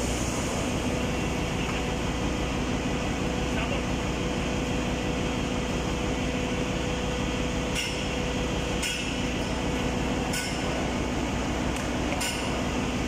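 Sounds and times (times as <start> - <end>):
engine-room machinery hum: 0.0 - 13.0.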